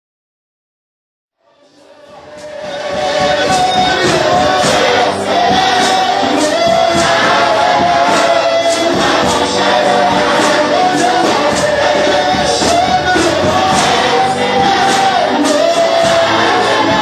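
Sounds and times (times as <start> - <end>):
choir singing held notes: 1.4 - 17.0
steady beat: 1.7 - 17.0.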